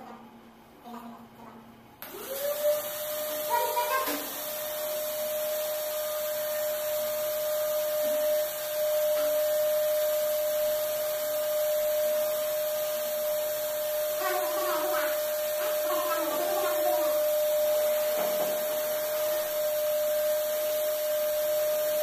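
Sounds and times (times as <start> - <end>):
vacuum cleaner whining: 2.0 - 22.0.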